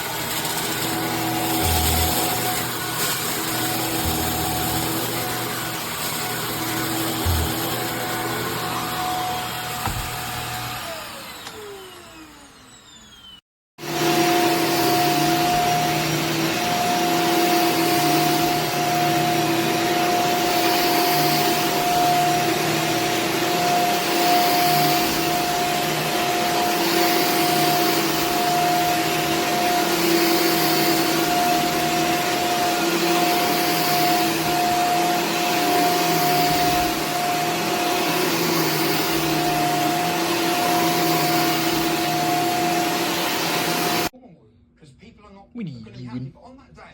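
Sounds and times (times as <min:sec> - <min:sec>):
vacuum cleaner motor whine: 0:00.0 - 0:44.1.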